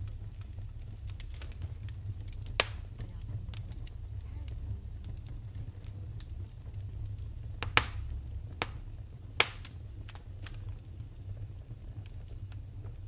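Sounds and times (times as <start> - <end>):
fire popping: 0.0 - 13.0
low steady rumble: 0.0 - 13.0
wood fire crackling: 0.0 - 13.0.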